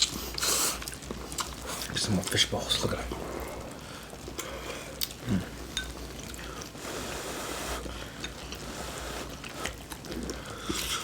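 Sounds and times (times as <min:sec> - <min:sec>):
chewing: 0:00.0 - 0:02.4, 0:03.4 - 0:06.8, 0:07.8 - 0:11.0.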